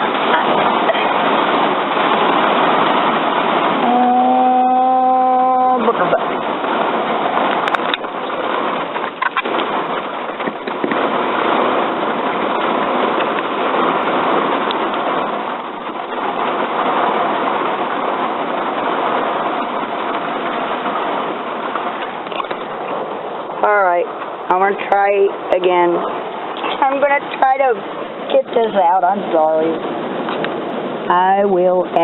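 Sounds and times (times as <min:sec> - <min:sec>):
heavy rain on a van roof: 0:00.0 - 0:32.0.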